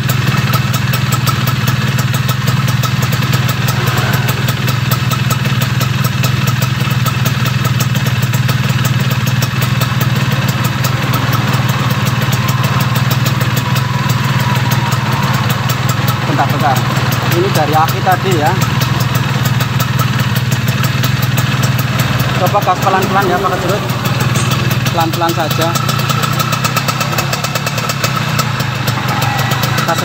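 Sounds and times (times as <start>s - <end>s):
two-stroke engine idling: 0.0s - 30.0s.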